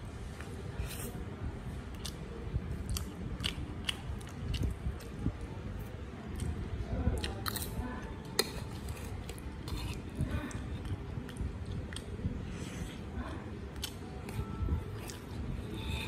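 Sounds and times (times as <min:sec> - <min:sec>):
chewing and crunching food: 0:00.3 - 0:16.0.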